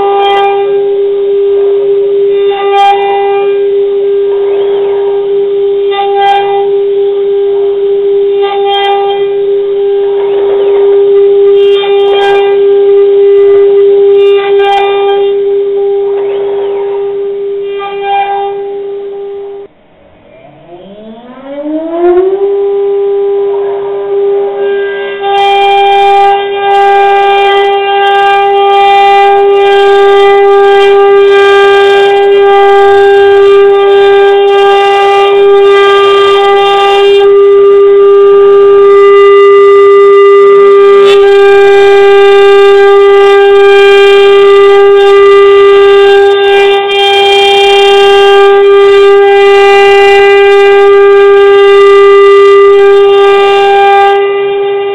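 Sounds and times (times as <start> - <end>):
spindle motor high-pitched whine: 0.0 - 47.0, 47.6 - 54.9.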